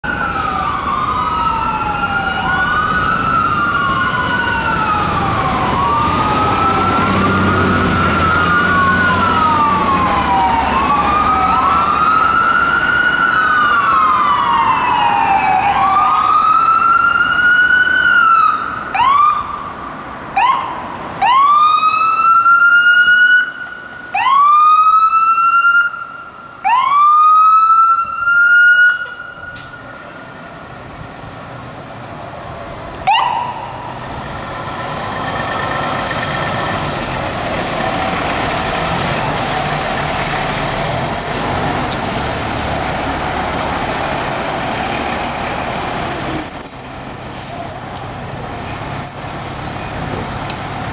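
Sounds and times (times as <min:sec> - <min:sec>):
fire engine siren: 0:00.0 - 0:31.0, 0:32.4 - 0:50.9.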